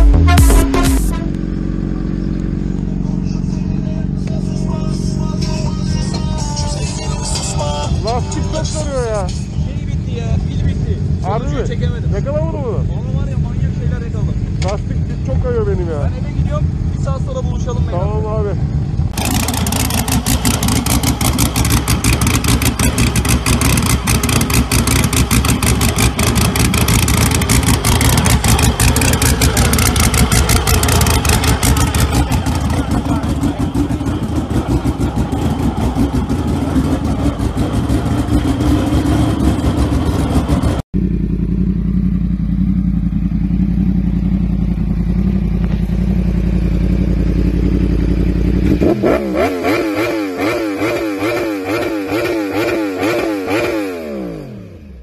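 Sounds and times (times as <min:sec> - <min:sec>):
race car engine pulsing idle: 0:00.0 - 0:49.4
lower pitched engine idling: 0:00.0 - 0:51.3.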